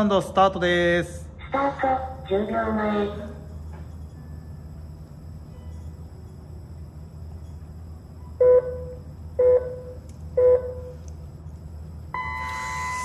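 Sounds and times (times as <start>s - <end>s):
long high-pitched start tone: 2.0s - 13.0s.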